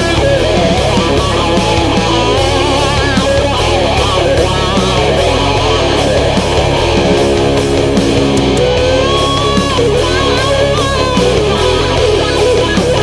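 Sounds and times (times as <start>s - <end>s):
heavy metal music: 0.0s - 13.0s.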